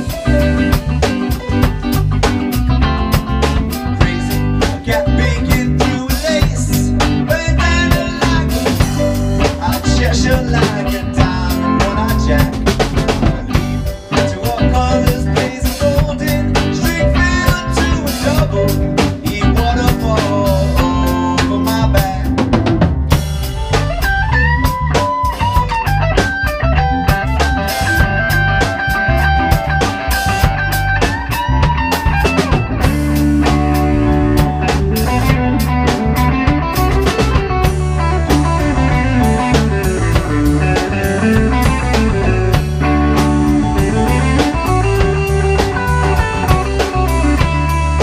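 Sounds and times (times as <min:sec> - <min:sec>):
bass guitar: 0:00.0 - 0:48.0
drum kit: 0:00.0 - 0:48.0
electric guitar bending notes: 0:00.0 - 0:48.0.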